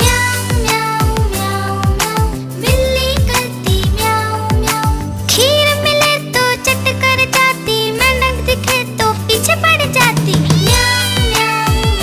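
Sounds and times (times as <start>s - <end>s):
upbeat children's song: 0.0s - 12.0s.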